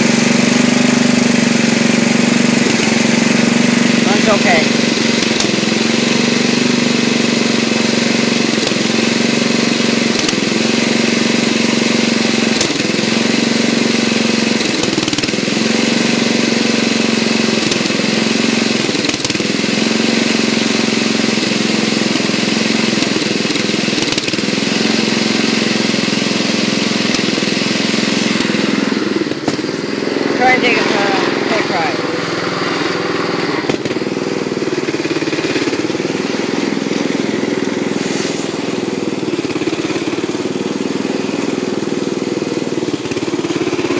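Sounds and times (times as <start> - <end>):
lawn tractor engine idling: 0.0 - 43.9.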